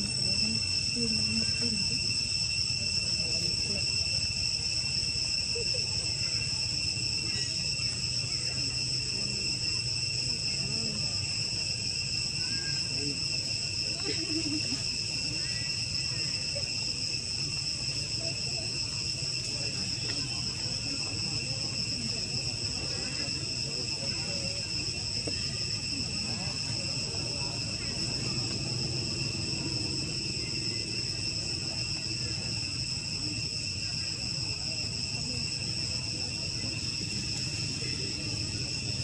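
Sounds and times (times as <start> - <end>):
insect chorus buzzing: 0.0 - 39.0.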